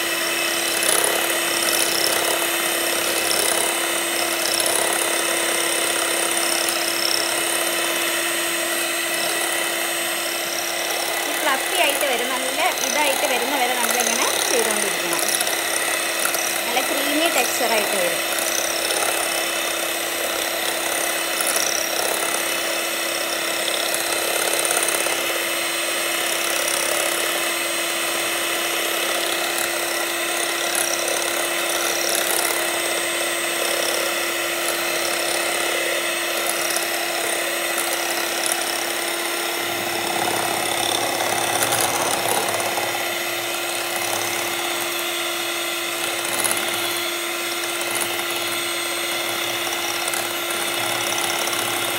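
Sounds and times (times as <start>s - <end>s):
electric hand mixer running: 0.0s - 51.9s.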